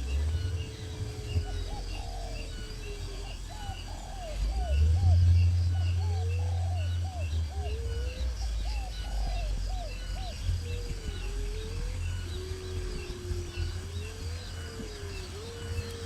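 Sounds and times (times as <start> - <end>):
bird gliding whistles: 0.0 - 16.0
steady low rumble: 0.0 - 16.0.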